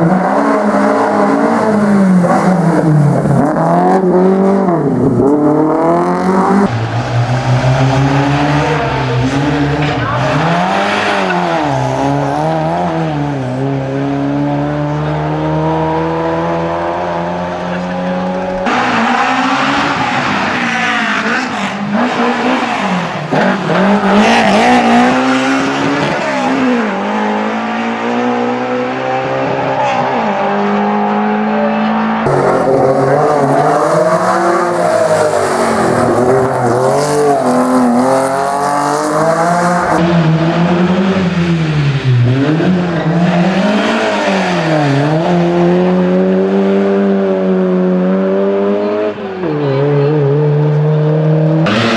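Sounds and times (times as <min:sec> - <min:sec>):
racing car engines revving: 0:00.0 - 0:51.9.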